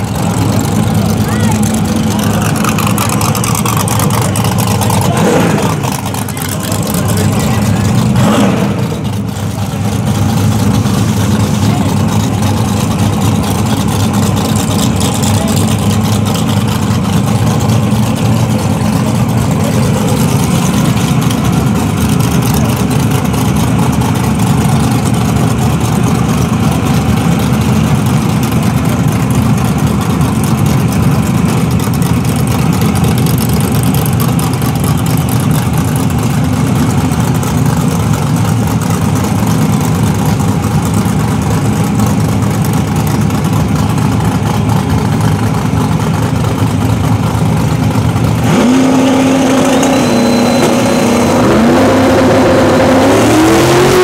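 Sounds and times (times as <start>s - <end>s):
truck engine idling loudly: 0.0s - 54.0s.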